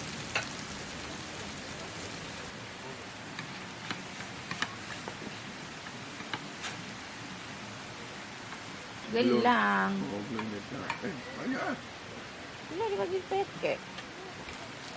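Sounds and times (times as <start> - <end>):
rain hiss: 0.0 - 14.9.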